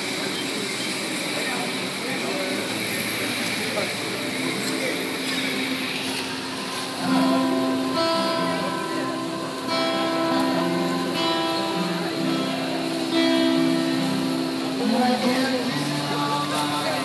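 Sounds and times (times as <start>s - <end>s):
amplified street band music: 0.0s - 17.0s
street noise: 0.0s - 17.0s.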